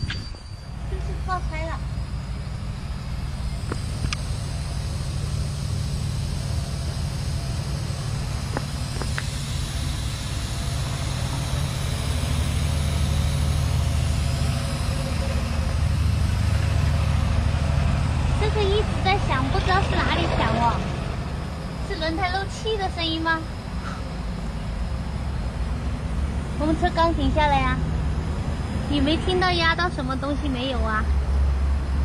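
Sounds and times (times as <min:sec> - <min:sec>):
low hum with hiss: 0:00.0 - 0:32.0.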